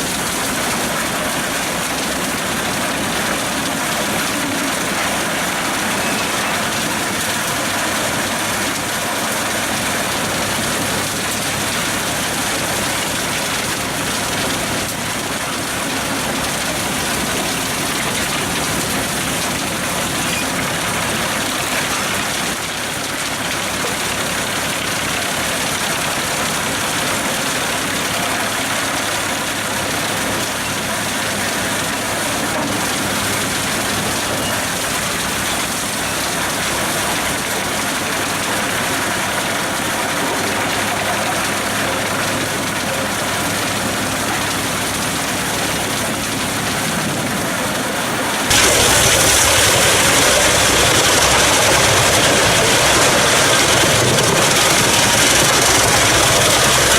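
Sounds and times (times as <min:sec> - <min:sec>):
tractor engine: 0:00.0 - 0:56.9
wood chipper drum spinning: 0:00.0 - 0:56.9.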